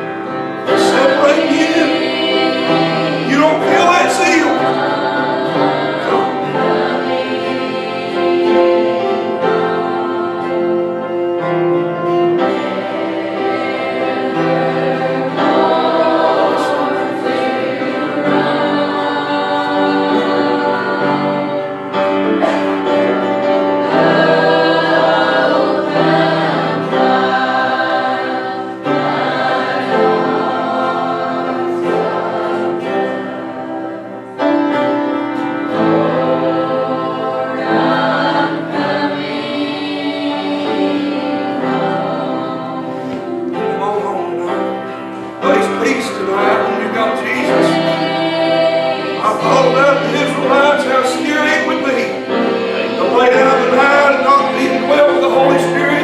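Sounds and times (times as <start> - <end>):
choir and congregation singing a hymn: 0.0 - 56.0.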